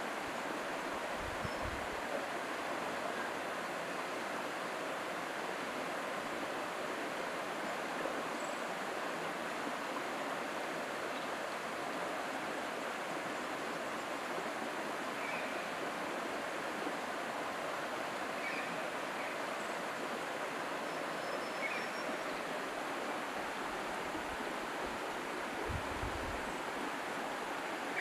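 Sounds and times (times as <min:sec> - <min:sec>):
distant creek water rushing: 0:00.0 - 0:28.0.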